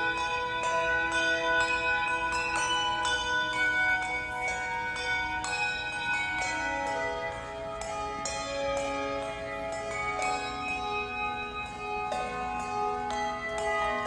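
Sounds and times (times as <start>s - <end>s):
handbells ringing: 0.0s - 14.0s.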